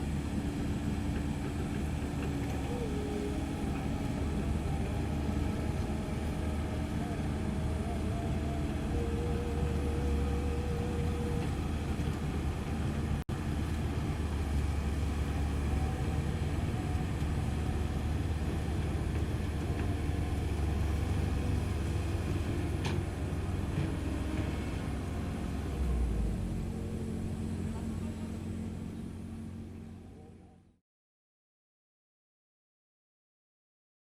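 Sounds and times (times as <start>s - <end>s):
excavator diesel engine running: 0.0s - 30.7s.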